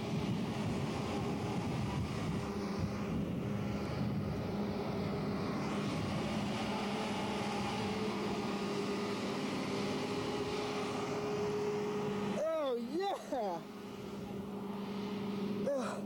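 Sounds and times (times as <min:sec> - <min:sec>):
engine-like hum: 0:00.0 - 0:16.0.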